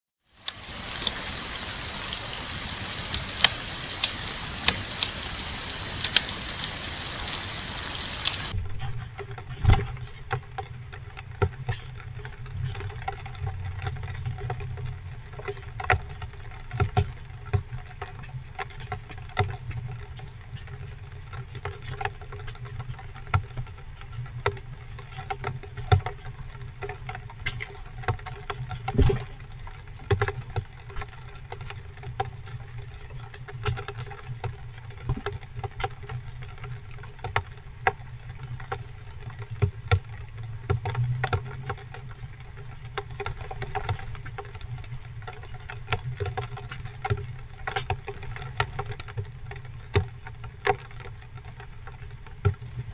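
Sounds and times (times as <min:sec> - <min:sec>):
steady rain: 0:00.2 - 0:52.9
low steady hum: 0:00.3 - 0:52.9.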